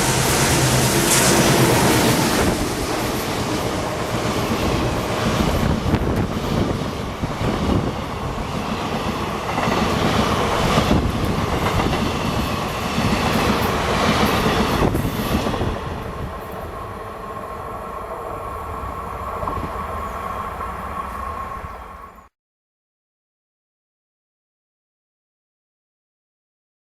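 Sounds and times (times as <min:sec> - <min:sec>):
railway wagons rumbling past: 0:00.0 - 0:22.3.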